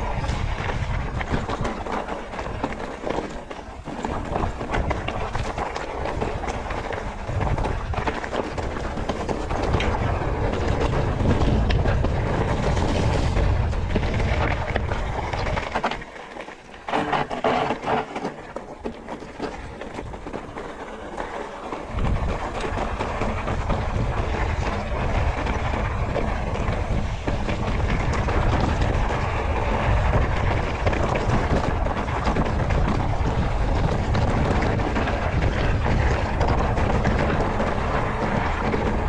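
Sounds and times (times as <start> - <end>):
bushes scraping against bike: 0.0 - 31.3
bike rattling and clicking: 0.0 - 39.0
tyres crunching over gravel: 0.0 - 39.0
wind rumble on microphone: 0.0 - 39.0.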